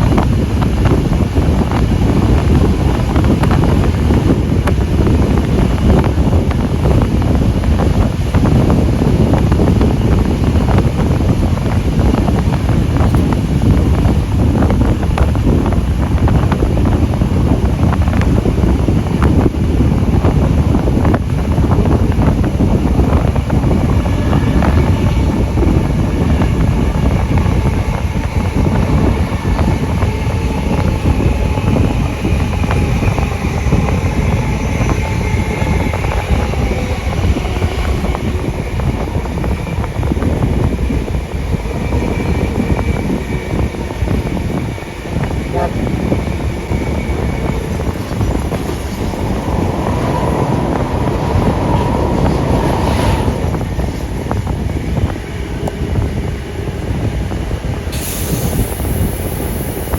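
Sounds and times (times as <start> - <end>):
steam train running: 0.0 - 59.9
wind buffeting microphone: 0.0 - 59.9.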